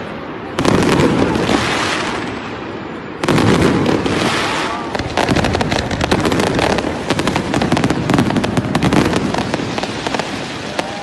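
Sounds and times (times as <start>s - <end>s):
fireworks cracking and banging: 0.4s - 11.0s.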